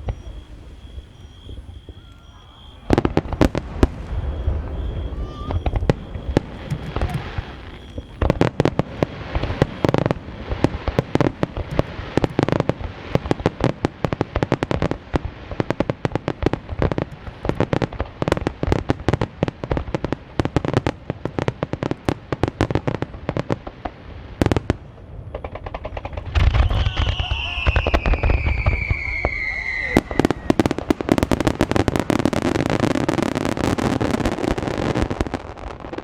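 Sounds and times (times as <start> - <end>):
firework shells bursting: 0.0 - 19.1, 23.0 - 36.0
heavy firework booms: 0.0 - 36.0.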